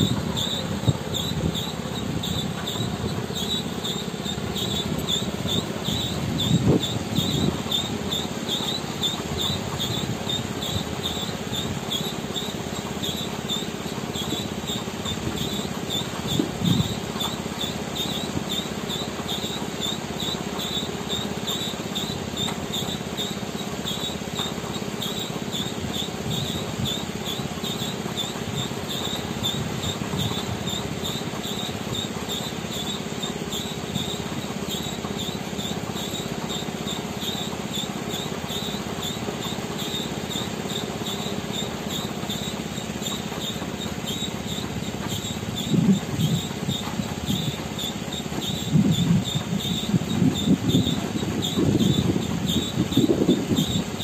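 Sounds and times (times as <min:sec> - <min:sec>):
concrete mixer truck drone: 0:00.0 - 0:54.0
high chirping: 0:00.0 - 0:54.0.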